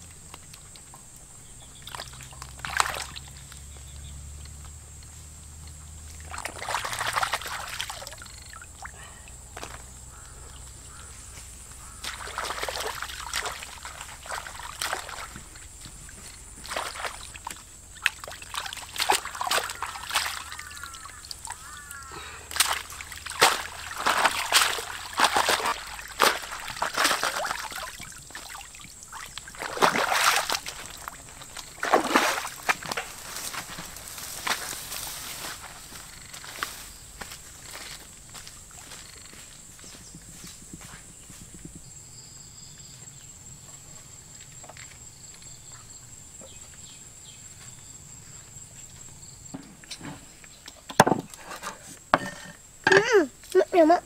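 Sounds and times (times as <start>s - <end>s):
water splashing and sloshing: 0.0s - 41.3s, 42.8s - 46.8s.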